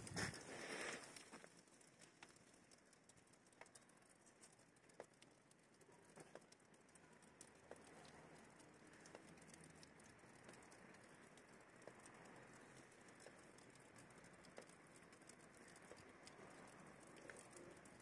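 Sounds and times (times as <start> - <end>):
soft ticks: 0.0 - 18.0.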